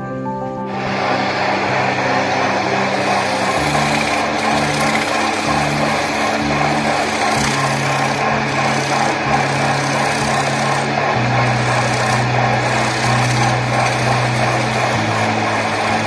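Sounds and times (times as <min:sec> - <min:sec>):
lathe tool scraping wood: 0:00.7 - 0:16.0.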